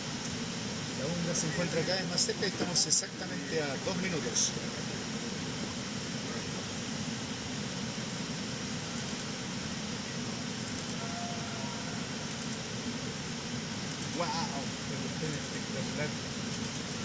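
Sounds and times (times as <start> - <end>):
airliner cockpit drone: 0.0 - 17.0.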